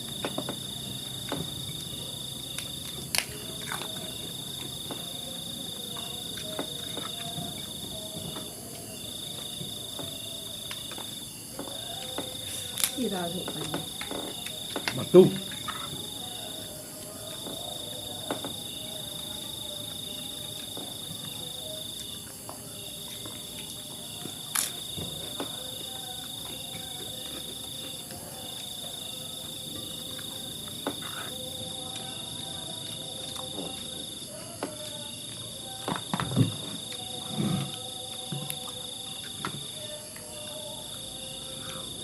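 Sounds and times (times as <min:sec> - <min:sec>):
insect trilling: 0:00.0 - 0:42.0.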